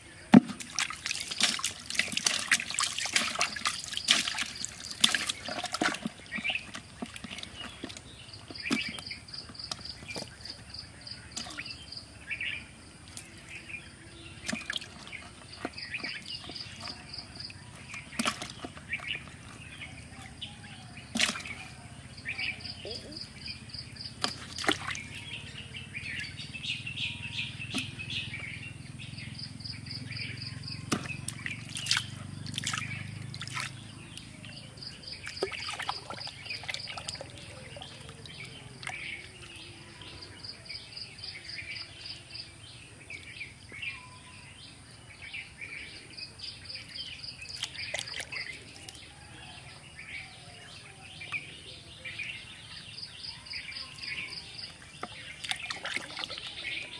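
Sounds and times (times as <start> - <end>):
faint water splashing and trickling: 0.0 - 44.7, 45.7 - 56.9
birds chirping and calling: 0.0 - 56.9.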